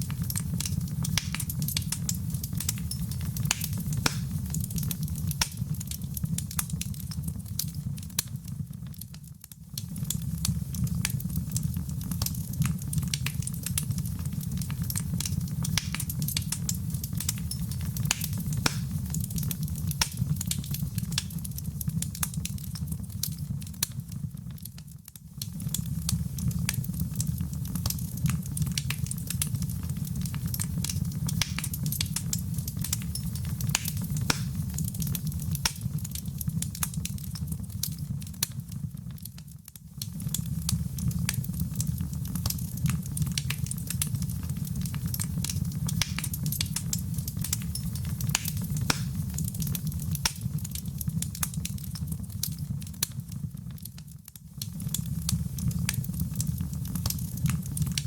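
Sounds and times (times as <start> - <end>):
fire crackling and popping: 0.0 - 58.0
low rumble of fire: 0.0 - 58.0.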